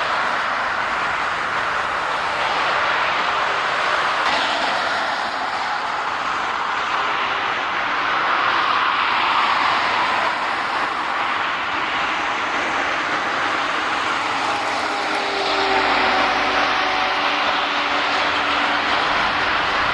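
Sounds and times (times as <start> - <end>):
jet engines running: 0.0 - 19.9.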